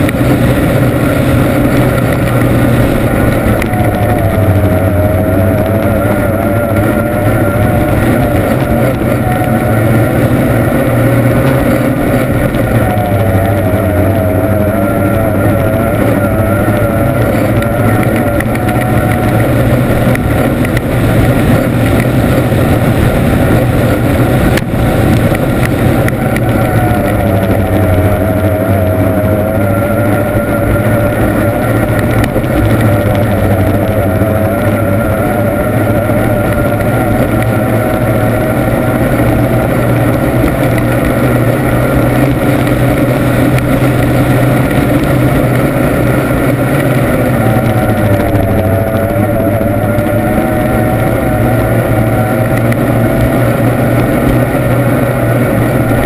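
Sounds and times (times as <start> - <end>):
powerboat engine at high revs: 0.0 - 56.0.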